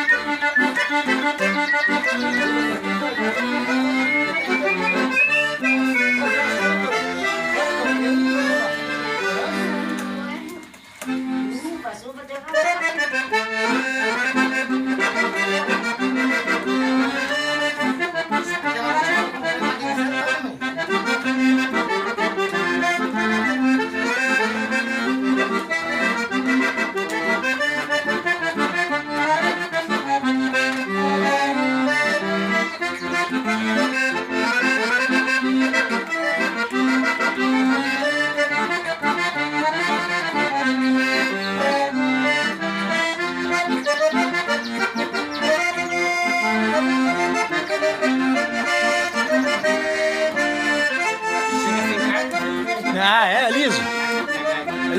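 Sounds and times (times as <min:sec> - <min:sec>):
accordion playing lively tune: 0:00.0 - 0:54.9.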